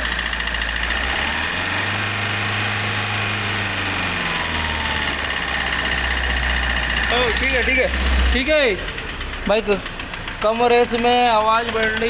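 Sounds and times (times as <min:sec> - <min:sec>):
car engine idling and revving: 0:00.0 - 0:12.0
engine knocking: 0:00.0 - 0:12.0.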